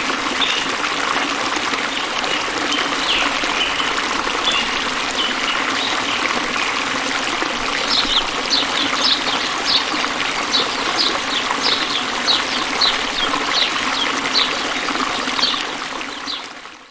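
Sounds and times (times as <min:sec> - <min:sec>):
stream rushing: 0:00.0 - 0:16.8.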